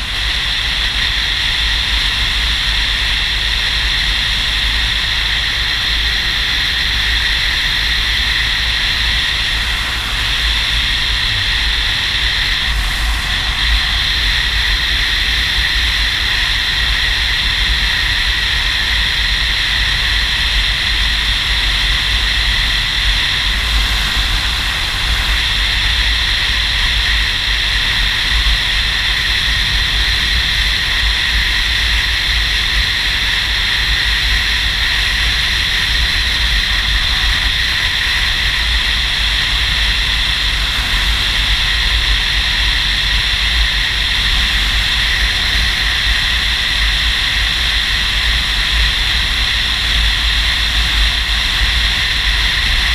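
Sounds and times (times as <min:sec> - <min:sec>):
motorcycle engine: 0:00.0 - 0:52.9
road noise: 0:00.0 - 0:52.9
wind rushing over microphone: 0:00.0 - 0:52.9.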